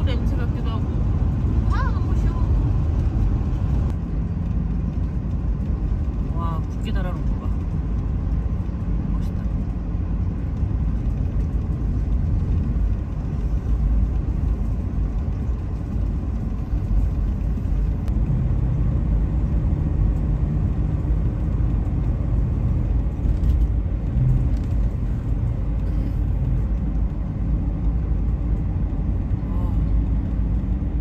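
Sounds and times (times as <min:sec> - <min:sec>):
low engine hum: 0:00.0 - 0:31.0
road and engine rumble: 0:00.0 - 0:31.0.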